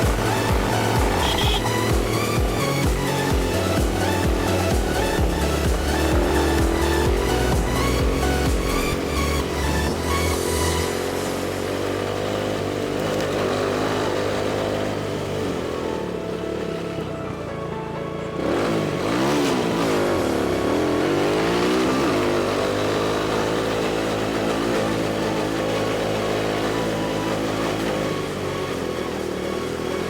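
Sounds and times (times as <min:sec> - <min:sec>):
atv engines running: 0:00.0 - 0:30.0.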